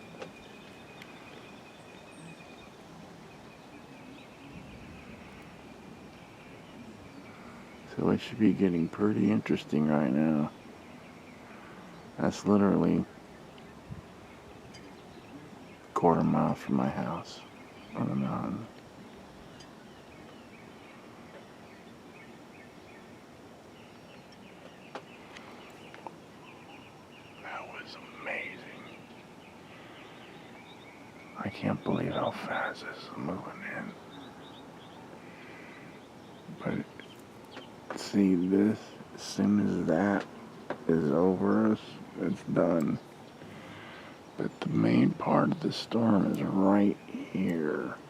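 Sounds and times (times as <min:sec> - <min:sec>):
faint background hiss: 0:00.0 - 0:48.0
small birds chirping: 0:00.0 - 0:48.0.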